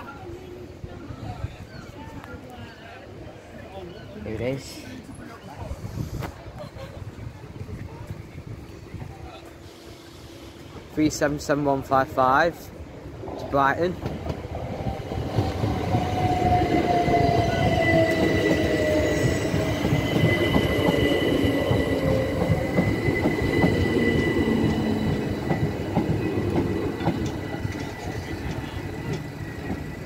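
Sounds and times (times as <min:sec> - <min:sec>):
train wheels rumbling on rail: 0:05.5 - 0:30.0.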